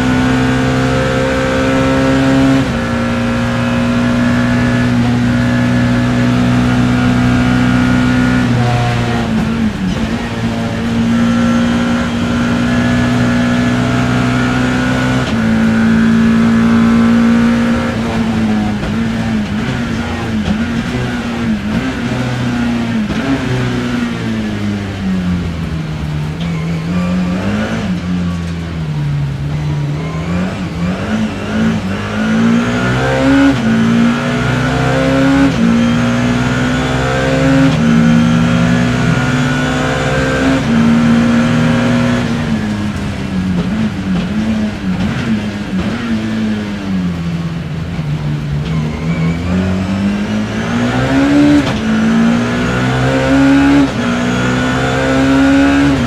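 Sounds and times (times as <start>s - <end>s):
engine blips on downshift: 0.0s - 56.0s
race car engine revving: 0.0s - 56.0s.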